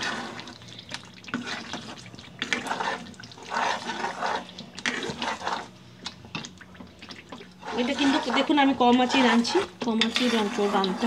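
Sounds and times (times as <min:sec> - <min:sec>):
spatula stirring thick gravy: 0:00.0 - 0:11.0.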